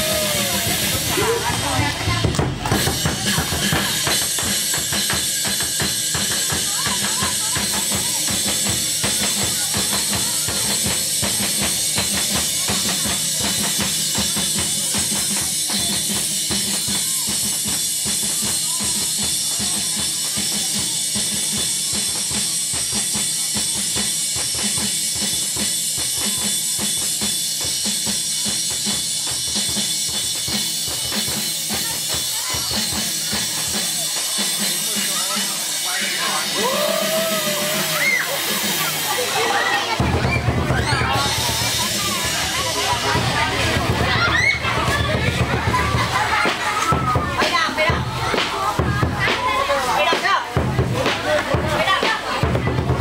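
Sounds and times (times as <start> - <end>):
barrel drum beaten fast: 0.0 - 53.0.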